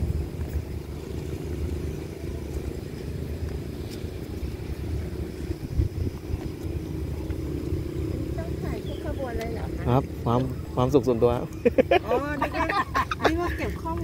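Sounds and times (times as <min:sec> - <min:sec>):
diesel train rumble: 0:00.0 - 0:14.0
wind buffeting microphone: 0:00.0 - 0:14.0.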